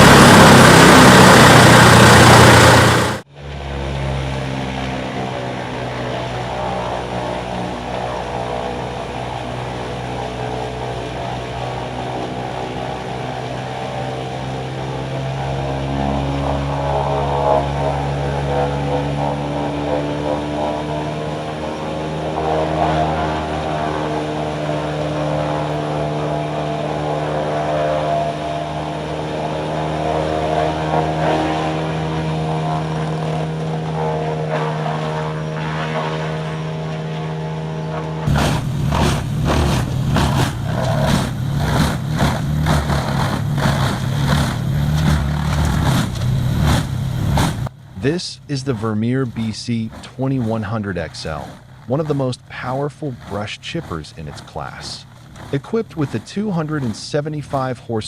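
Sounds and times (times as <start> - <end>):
wood chipper diesel engine droning: 0.0 - 58.0.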